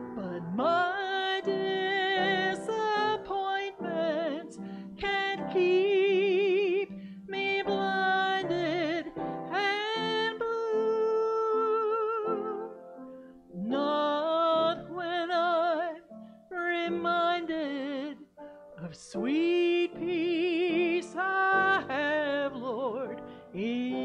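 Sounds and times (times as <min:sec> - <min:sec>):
person singing gospel song: 0:00.0 - 0:12.8, 0:13.6 - 0:24.0
upright piano: 0:00.0 - 0:24.0.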